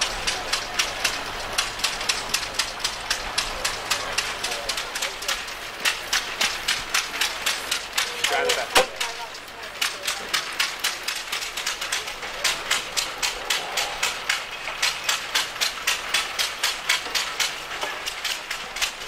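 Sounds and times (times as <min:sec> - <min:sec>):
machinery clicking rapidly: 0:00.0 - 0:19.0.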